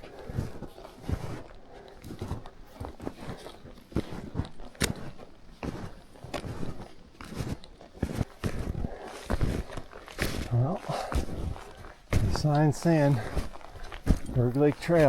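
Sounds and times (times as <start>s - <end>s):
snowshoe footsteps crunching snow: 0.0s - 15.0s.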